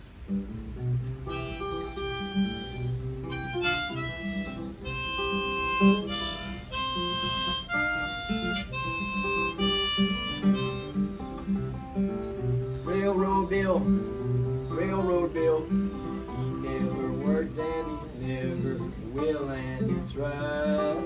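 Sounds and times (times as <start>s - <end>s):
acoustic guitar accompaniment: 0.0s - 21.0s
harmonica melody: 1.0s - 18.2s.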